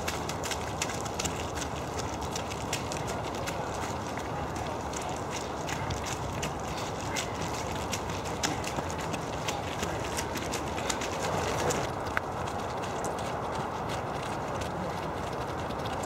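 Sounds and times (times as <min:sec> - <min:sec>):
footsteps on muddy trail: 0:00.0 - 0:16.0
steady outdoor noise: 0:00.0 - 0:16.0.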